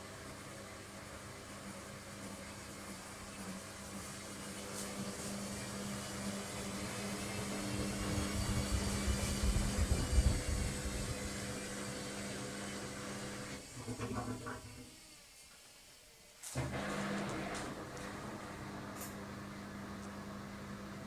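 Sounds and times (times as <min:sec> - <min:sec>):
washing machine spinning: 0:00.0 - 0:15.0, 0:16.6 - 0:21.0.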